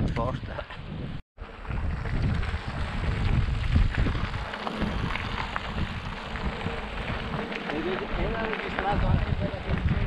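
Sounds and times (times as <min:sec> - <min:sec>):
wind buffeting microphone: 0:00.0 - 0:10.0
mountain bike rolling on trail: 0:01.4 - 0:10.0.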